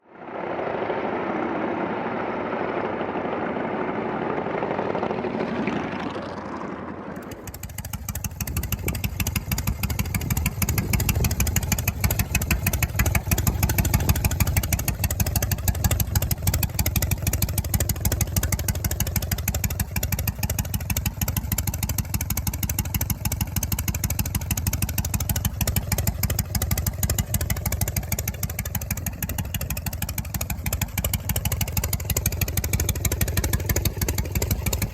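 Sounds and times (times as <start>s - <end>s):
motorcycle engine exhaust pulsing: 0.0s - 34.9s.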